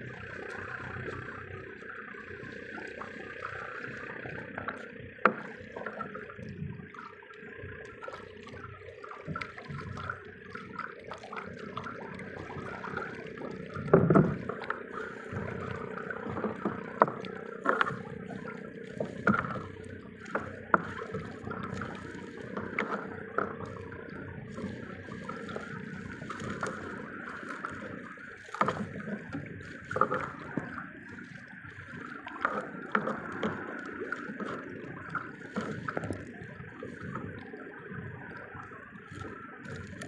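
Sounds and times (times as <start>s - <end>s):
water sloshing against boat hull: 0.0s - 40.0s.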